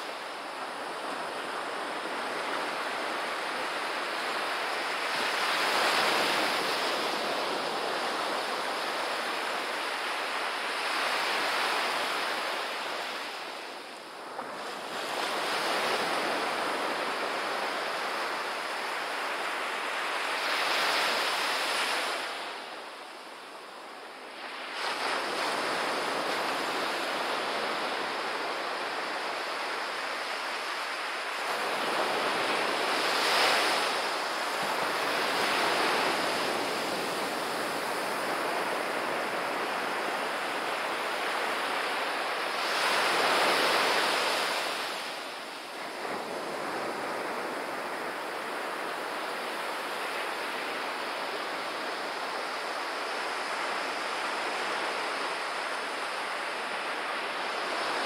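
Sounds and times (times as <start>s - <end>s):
small surf washing up beach: 0.0s - 58.0s.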